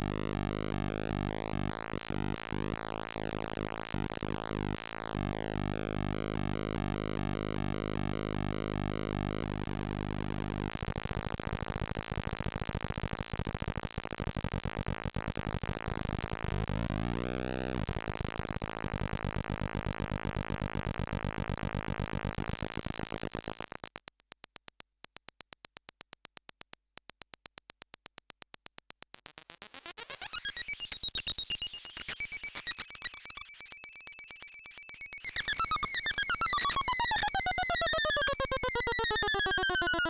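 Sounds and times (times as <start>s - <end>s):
harsh buzzing square-wave tones: 0.0s - 24.1s, 29.0s - 40.0s.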